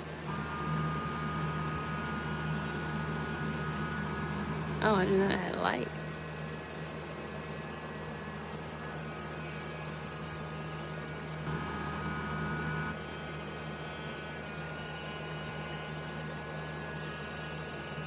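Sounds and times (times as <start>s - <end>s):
rotary tool motor whining: 0.0s - 18.0s.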